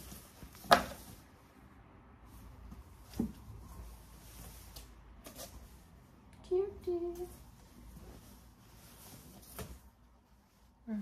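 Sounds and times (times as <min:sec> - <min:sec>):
fabric rustling: 0:00.0 - 0:06.2, 0:07.0 - 0:11.0.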